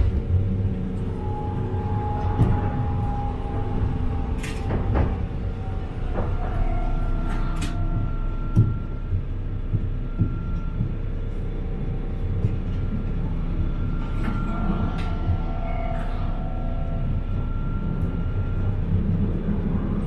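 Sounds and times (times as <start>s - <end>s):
tram wheels rumbling on rail: 0.0s - 20.0s.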